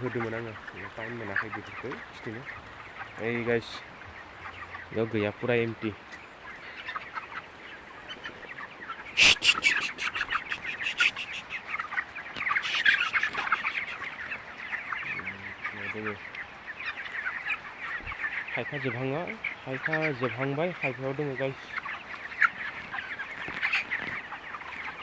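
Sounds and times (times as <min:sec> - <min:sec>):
chicks peeping and chirping: 0:00.0 - 0:25.0.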